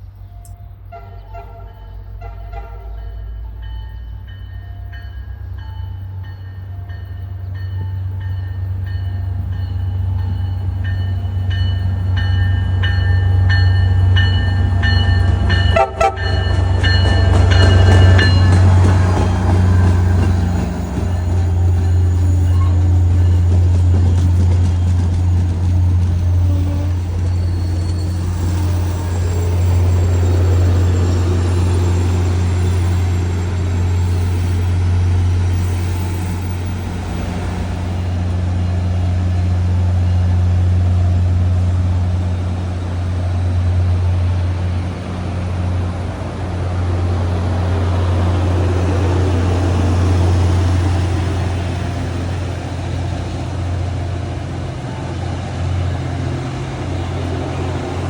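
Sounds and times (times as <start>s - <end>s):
rail rumbling: 0.0s - 58.0s
train deep hum: 0.0s - 58.0s.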